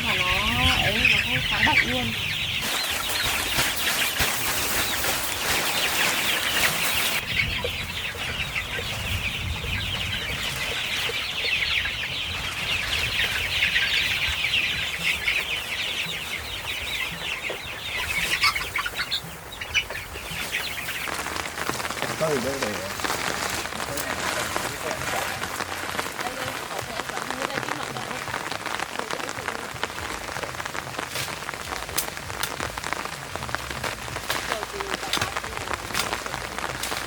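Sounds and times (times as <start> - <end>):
chicks peeping: 0.0 - 37.0.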